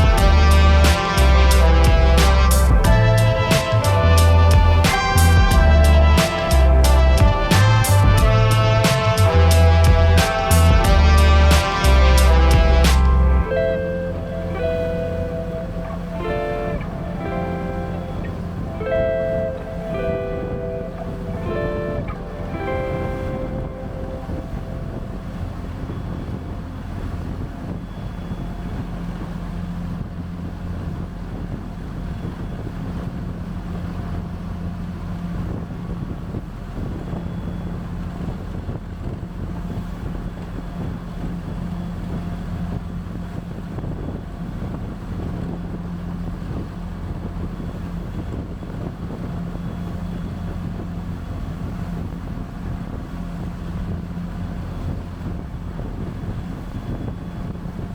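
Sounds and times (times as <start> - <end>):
boat engine droning: 0.0 - 57.9
wind buffeting microphone: 0.0 - 57.9.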